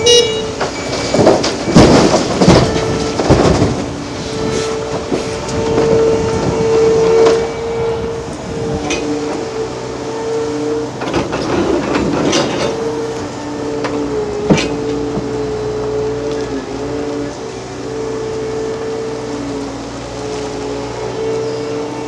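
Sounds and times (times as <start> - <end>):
excavator engine whining: 0.0 - 22.0.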